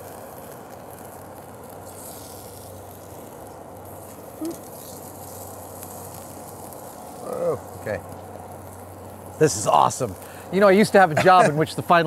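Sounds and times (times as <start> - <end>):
steaks sizzling on a grill: 0.0 - 12.0.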